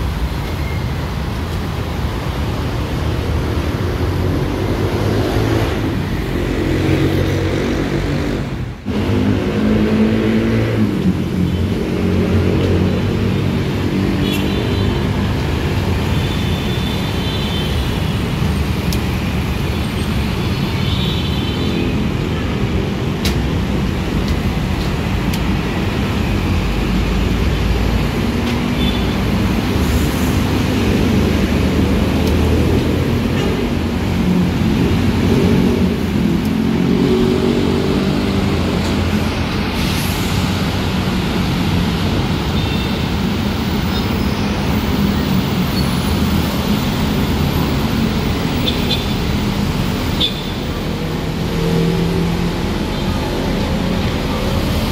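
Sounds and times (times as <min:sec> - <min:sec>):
traffic driving past: 0:00.0 - 0:54.9.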